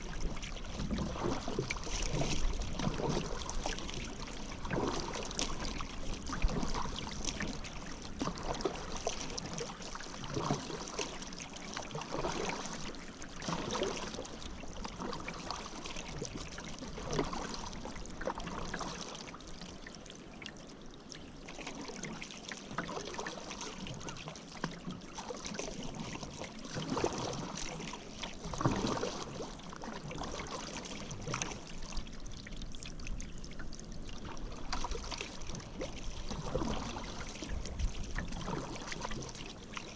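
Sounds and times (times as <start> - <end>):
paddle splashing in water: 0.0 - 39.9
water trickling off paddle: 0.0 - 39.9.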